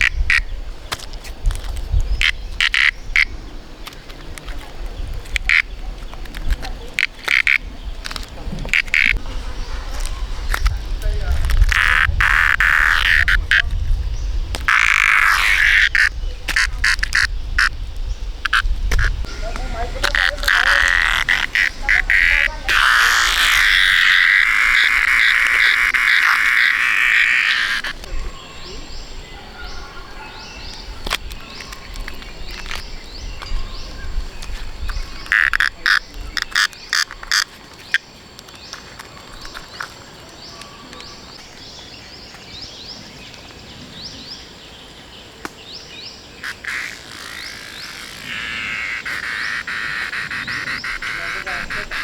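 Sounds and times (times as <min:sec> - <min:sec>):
frogs calling: 0:00.0 - 0:52.0.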